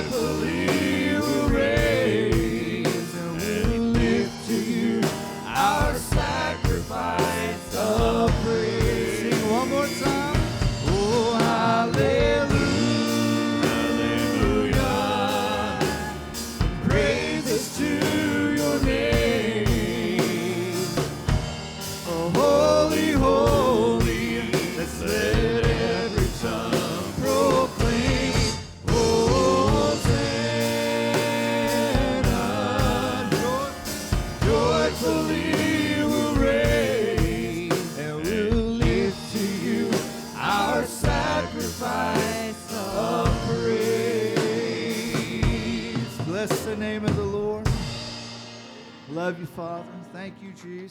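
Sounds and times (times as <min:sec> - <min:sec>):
worship music with singing: 0:00.0 - 0:50.9.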